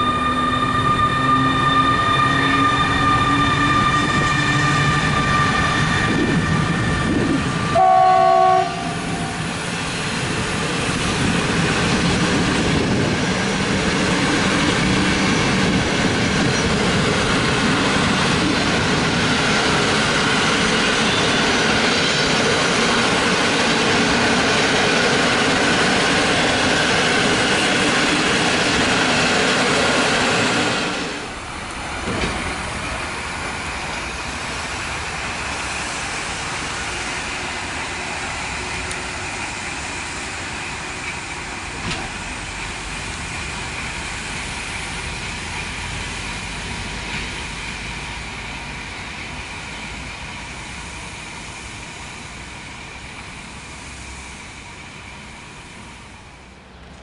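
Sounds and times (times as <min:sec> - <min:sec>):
electric train passing: 0:00.0 - 0:57.0
train wheels rushing on rail: 0:00.0 - 0:57.0.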